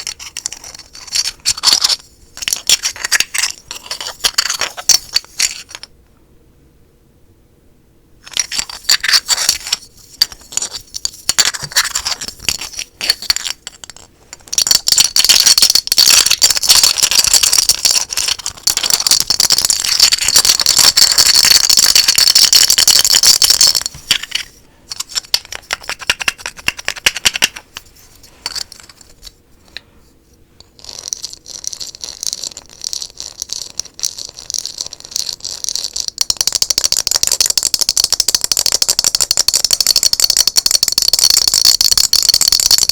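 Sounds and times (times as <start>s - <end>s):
tapping and scratching small objects: 0.0s - 5.9s, 8.2s - 29.9s, 30.6s - 42.9s.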